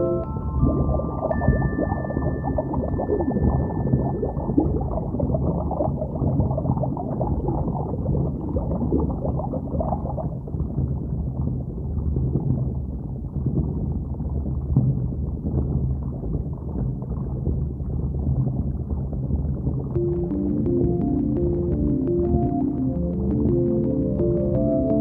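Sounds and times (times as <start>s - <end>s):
low underwater rumble: 0.0s - 25.0s
underwater churning and gurgling water: 0.6s - 24.2s.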